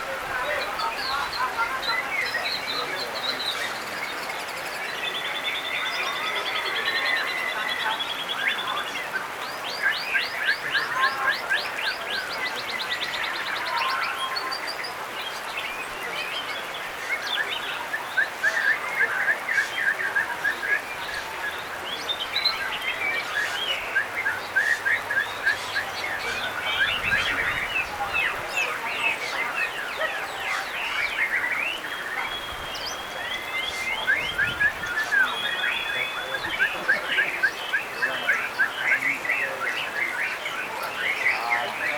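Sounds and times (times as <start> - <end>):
songbirds singing: 0.0 - 41.9.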